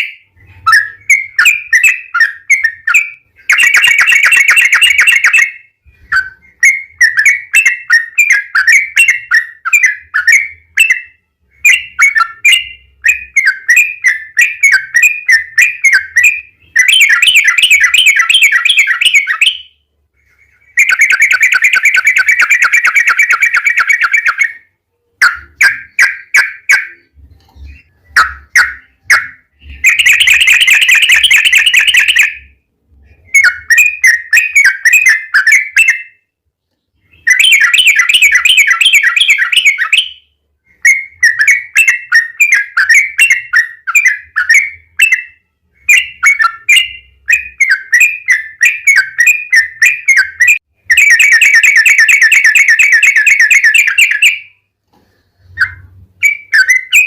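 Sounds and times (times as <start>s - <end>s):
bird singing with trills: 0.0s - 54.7s, 55.4s - 57.0s.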